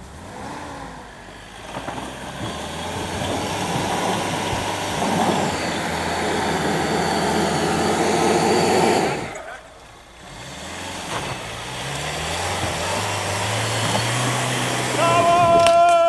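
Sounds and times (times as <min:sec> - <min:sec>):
engine driving through snow: 0:00.0 - 0:16.0.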